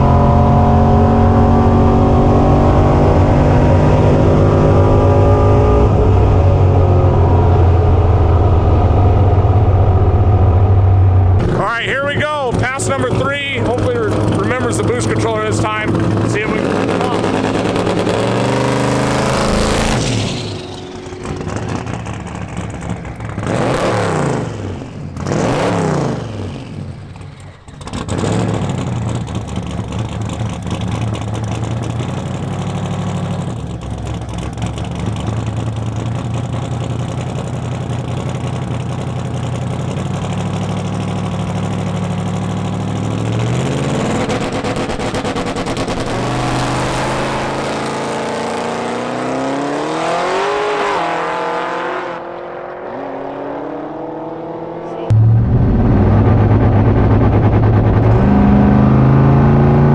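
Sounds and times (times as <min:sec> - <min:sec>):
drag car engines revving: 0:00.0 - 0:59.9.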